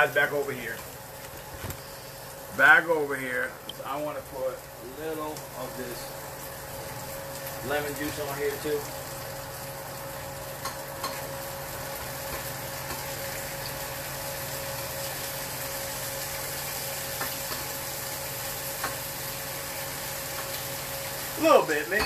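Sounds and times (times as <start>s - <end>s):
food sizzling in pans: 0.0s - 22.0s.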